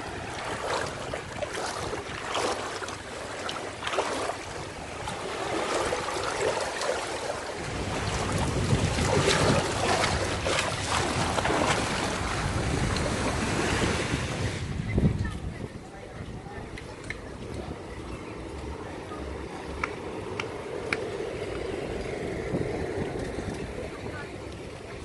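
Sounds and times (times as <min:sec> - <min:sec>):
small waves washing: 0:00.0 - 0:25.0
wind buffeting microphone: 0:00.0 - 0:25.0.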